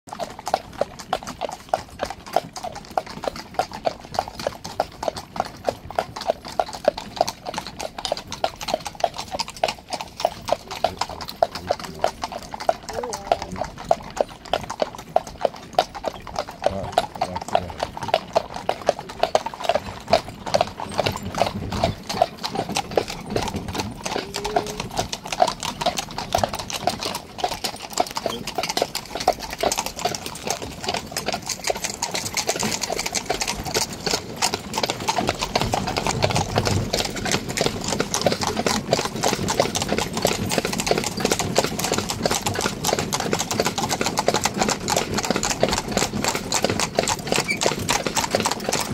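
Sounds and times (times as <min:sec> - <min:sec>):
horse hooves clip-clopping on pavement: 0:00.1 - 0:48.9.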